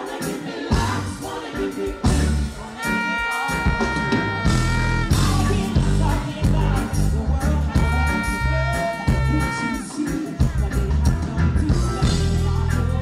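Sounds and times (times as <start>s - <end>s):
live reggae band music: 0.0s - 13.0s.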